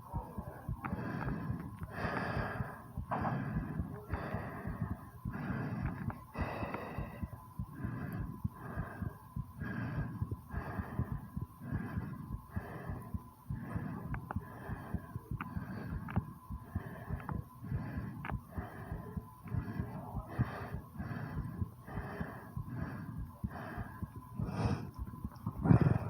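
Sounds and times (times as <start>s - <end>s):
heartbeat thuds: 0.0s - 26.0s
woman breathing hard: 0.6s - 26.0s.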